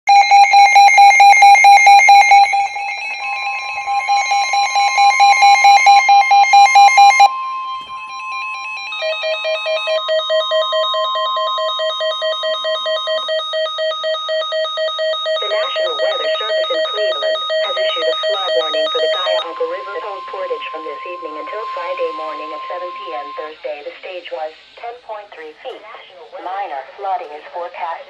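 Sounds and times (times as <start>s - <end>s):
alert receiver rapid beeping: 0.1s - 23.6s
lower-pitched beeping: 0.1s - 23.8s
high steady warning tone: 0.1s - 24.9s.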